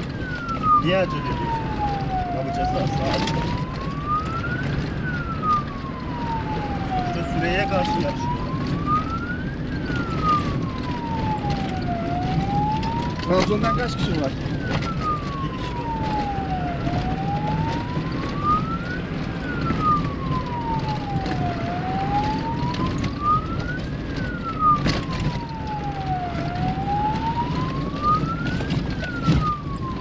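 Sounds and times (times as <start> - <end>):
electronic siren wailing: 0.0 - 30.0
off-road vehicle engine running: 0.0 - 30.0.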